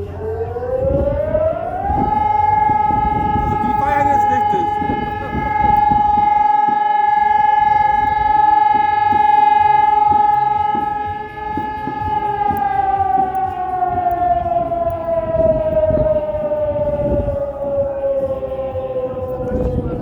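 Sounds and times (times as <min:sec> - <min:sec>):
siren winding down: 0:00.0 - 0:20.0.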